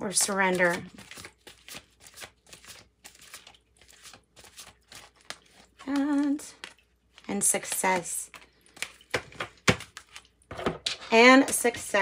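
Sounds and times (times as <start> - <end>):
cards being shuffled: 0.1 - 10.3.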